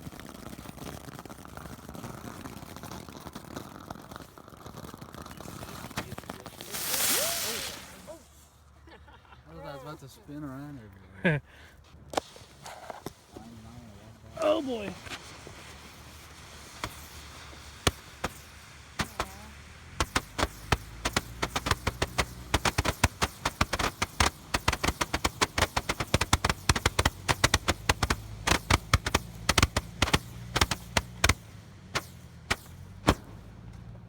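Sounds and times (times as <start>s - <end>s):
firecrackers cracking: 0.0s - 8.8s, 12.1s - 34.0s.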